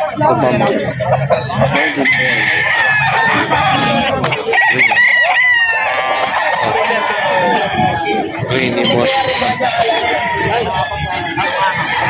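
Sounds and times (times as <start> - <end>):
murmur of voices: 0.0 - 12.0
roosters crowing: 0.0 - 12.0.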